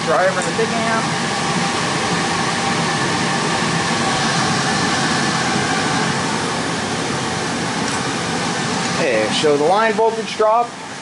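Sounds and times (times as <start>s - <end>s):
cooling blower rushing air: 0.0s - 11.0s.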